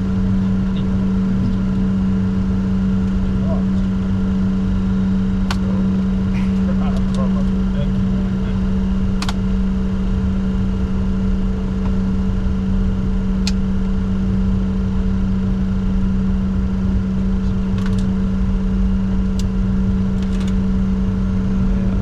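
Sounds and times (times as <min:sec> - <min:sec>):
cockpit low hum: 0:00.0 - 0:22.0.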